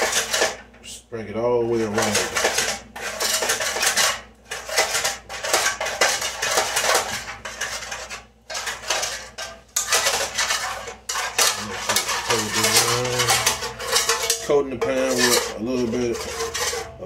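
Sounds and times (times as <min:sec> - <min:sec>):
spoon scraping baking pan: 0:00.0 - 0:00.7, 0:01.6 - 0:17.0.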